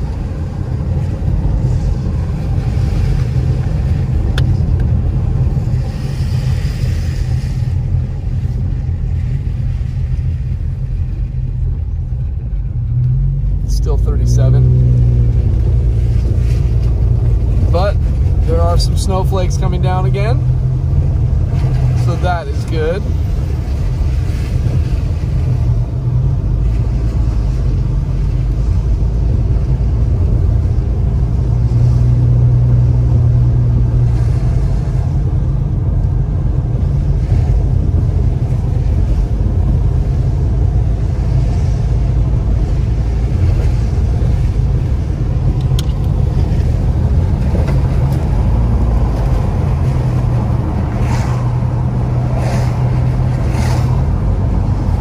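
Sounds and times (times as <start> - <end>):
car driving on wet road: 0.0 - 55.0.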